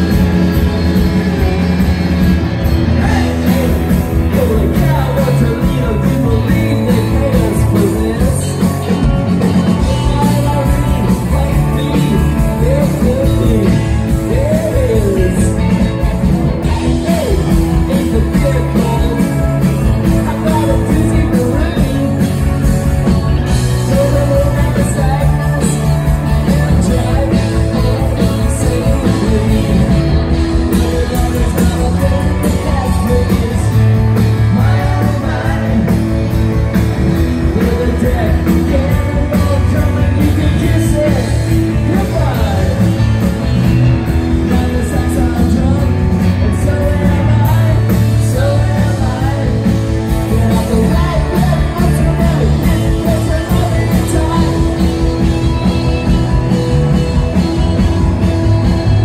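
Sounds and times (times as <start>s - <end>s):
electric guitars: 0.0s - 59.0s
rock drums: 0.0s - 59.0s
person singing: 2.9s - 36.6s, 37.2s - 59.0s.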